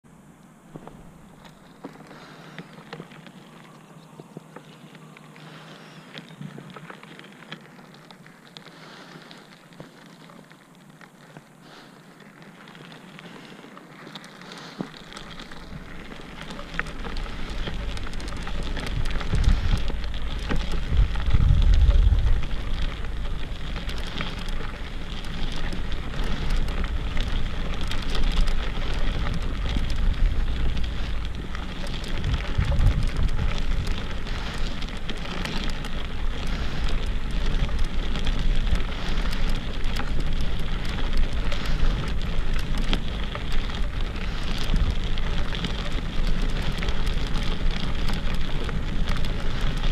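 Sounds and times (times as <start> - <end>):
wheelchair wheels rolling on gravel: 0.6 - 49.9.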